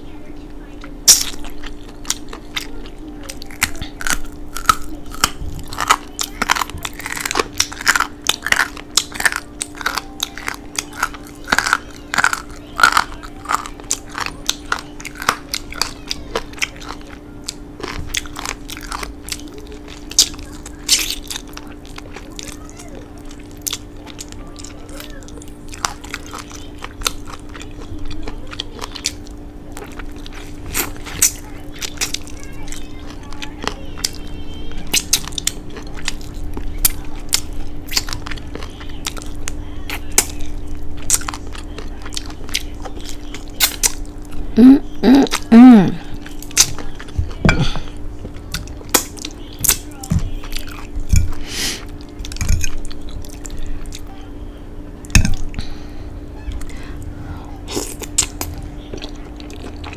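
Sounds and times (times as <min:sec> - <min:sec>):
steady low hum: 0:00.0 - 0:59.9
chewing ribs: 0:00.7 - 0:59.9.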